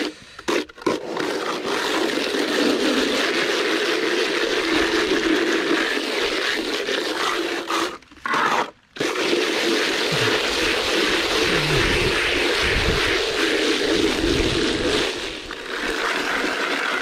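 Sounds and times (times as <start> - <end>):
scraping crunching noise: 0.0 - 17.0.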